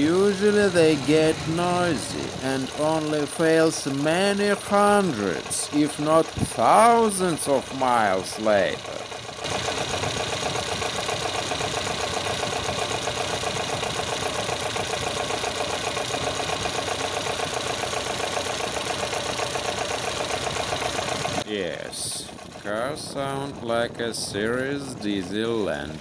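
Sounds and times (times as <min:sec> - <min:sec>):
engine idling with rapid clatter: 0:00.0 - 0:26.0.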